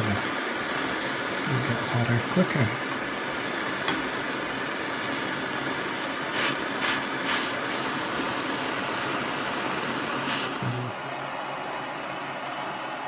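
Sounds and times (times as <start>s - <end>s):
gas torch hissing: 0.0s - 13.0s.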